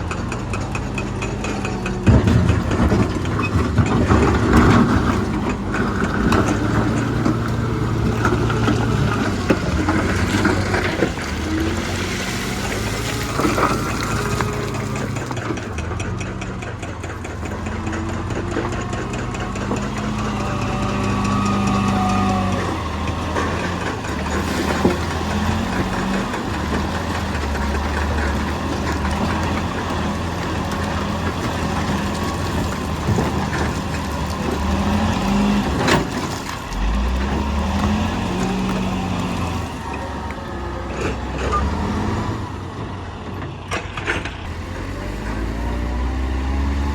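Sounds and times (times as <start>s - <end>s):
diesel machinery engine running: 0.0s - 46.9s.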